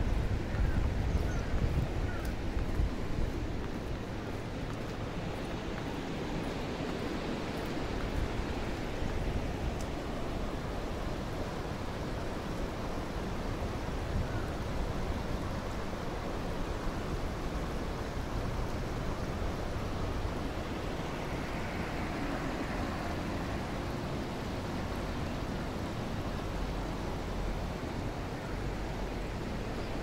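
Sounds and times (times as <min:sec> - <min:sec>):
steady rushing outdoor noise: 0:00.0 - 0:30.0.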